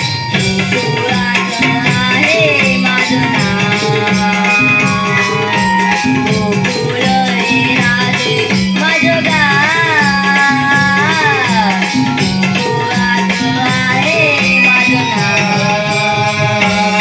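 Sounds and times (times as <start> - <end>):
boy singing devotional song: 0.0 - 17.0
drum beat: 0.0 - 17.0
rattling percussion: 0.0 - 17.0.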